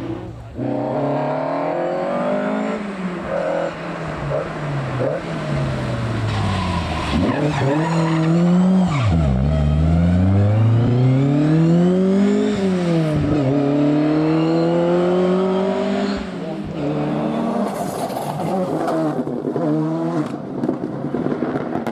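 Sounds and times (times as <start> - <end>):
car engine accelerating hard: 0.0 - 20.4.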